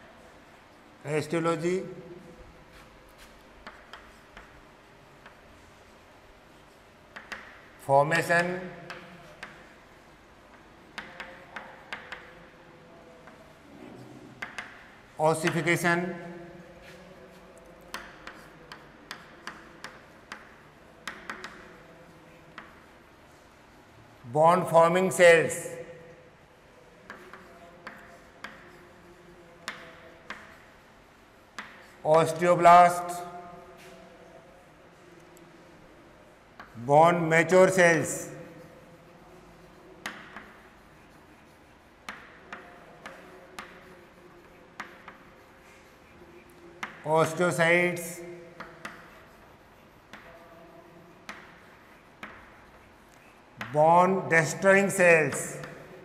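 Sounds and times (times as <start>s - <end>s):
chalk tapping on blackboard: 2.6s - 23.8s, 25.1s - 34.2s, 35.3s - 56.0s.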